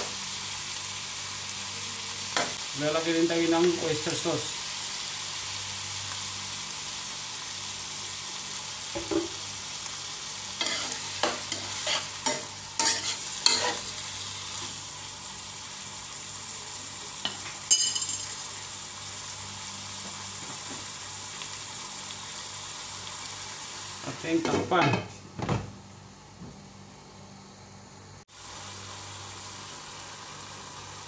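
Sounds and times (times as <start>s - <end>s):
food sizzling in oil: 0.0s - 25.0s, 25.9s - 31.0s.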